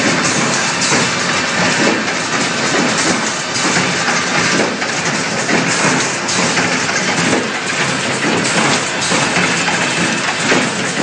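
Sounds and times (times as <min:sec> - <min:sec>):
crimping machine clattering: 0:00.0 - 0:11.0.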